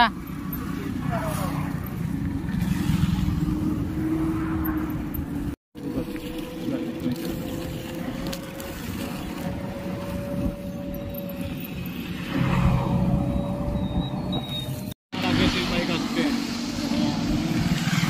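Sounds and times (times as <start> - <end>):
road noise rumbling: 0.0 - 18.0
vehicle engine hum: 0.0 - 18.0.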